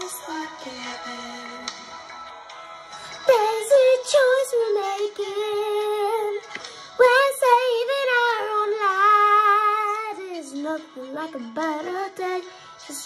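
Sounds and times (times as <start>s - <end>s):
girl singing with vibrato: 0.0s - 1.7s, 3.2s - 6.4s, 7.0s - 13.0s
pop song playing: 0.0s - 13.0s.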